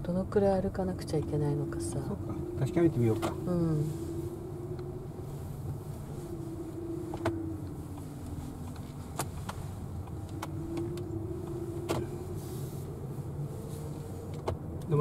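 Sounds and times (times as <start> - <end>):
car engine and road rumble: 0.0 - 15.0
faint drifting tone: 0.0 - 15.0.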